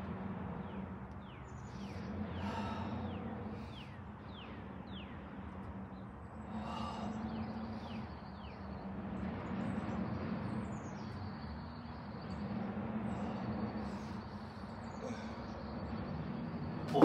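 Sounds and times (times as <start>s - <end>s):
low hum and rumble: 0.0s - 17.0s
small birds chirping: 0.6s - 17.0s.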